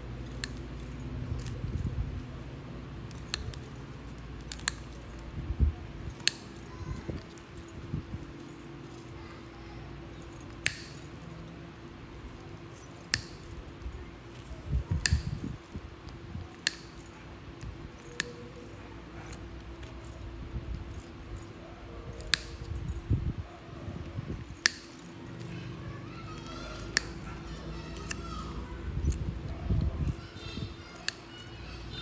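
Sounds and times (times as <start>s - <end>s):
soft handling rustle: 0.0s - 32.0s
nail nippers cracking through toenail: 0.2s - 2.3s, 3.0s - 5.3s, 6.0s - 9.4s, 10.1s - 11.6s, 12.3s - 32.0s.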